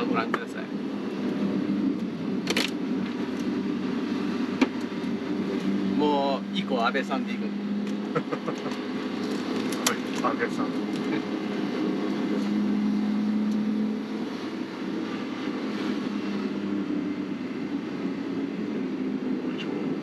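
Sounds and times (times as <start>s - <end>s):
car engine hum: 0.0s - 20.0s
road noise inside car: 0.0s - 20.0s.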